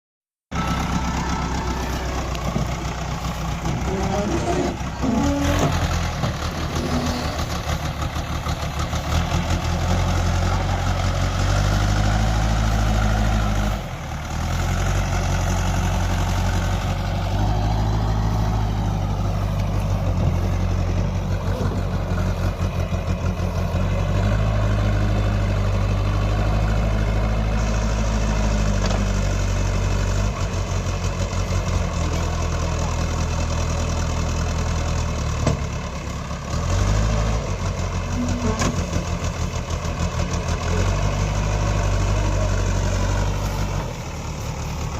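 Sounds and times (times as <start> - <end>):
backhoe diesel engine revving: 0.5 - 44.9.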